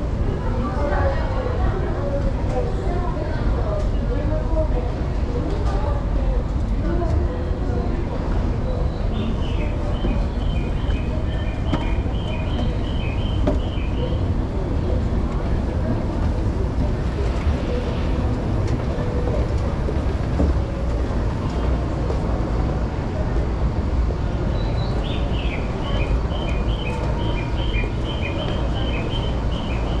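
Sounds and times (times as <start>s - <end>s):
railway station rumble: 0.0s - 30.0s.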